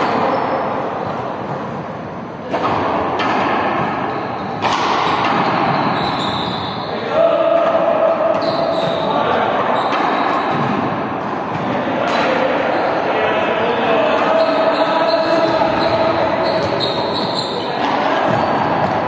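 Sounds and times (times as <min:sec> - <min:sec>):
ball bouncing on hall floor: 0:00.0 - 0:12.8, 0:14.2 - 0:19.0
indistinct voices: 0:00.0 - 0:19.0.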